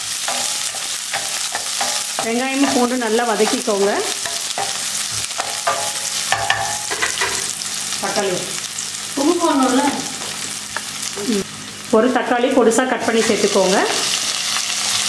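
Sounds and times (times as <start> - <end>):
shallots and garlic sizzling: 0.0 - 15.0.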